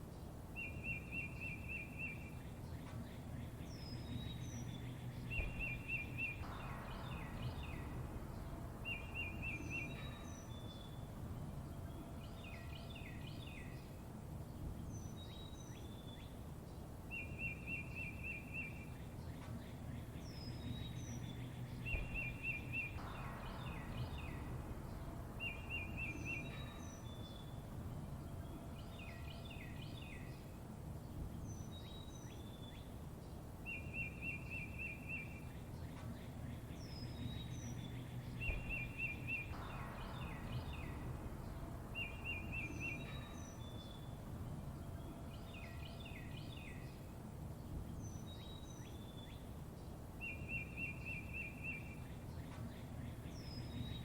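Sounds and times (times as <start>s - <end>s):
birds chirping: 0.0s - 54.0s
songbird trill: 0.0s - 54.0s
steady low rumble: 2.2s - 16.6s, 18.7s - 50.2s.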